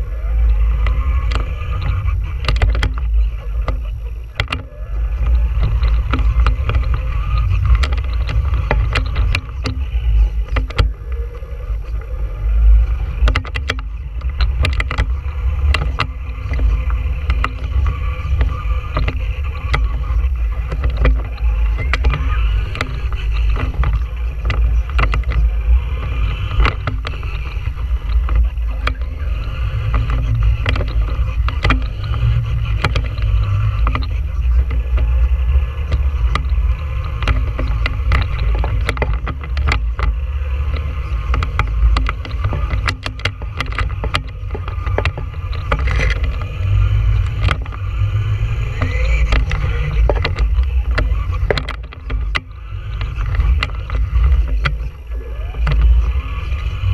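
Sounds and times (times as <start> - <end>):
clicks and knocks over bumps: 0.0 - 56.9
electric motor whine: 0.0 - 56.9
heavy rumble: 0.0 - 56.9
wind buffeting microphone: 0.0 - 56.9.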